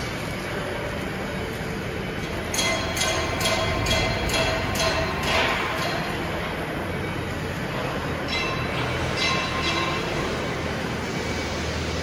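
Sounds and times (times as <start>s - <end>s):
factory machinery rumbling: 0.0s - 12.0s.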